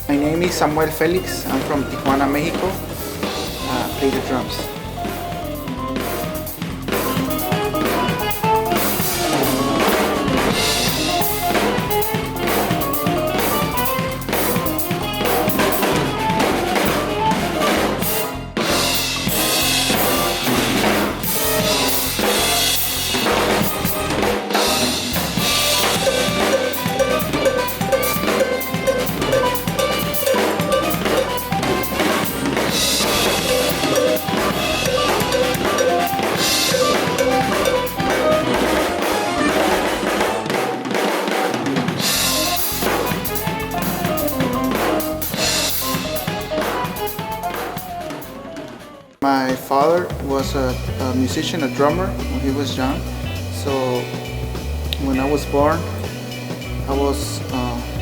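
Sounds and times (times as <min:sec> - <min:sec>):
music with bass: 0:00.0 - 0:41.1, 0:41.7 - 0:58.0
drum kit playing: 0:00.0 - 0:58.0.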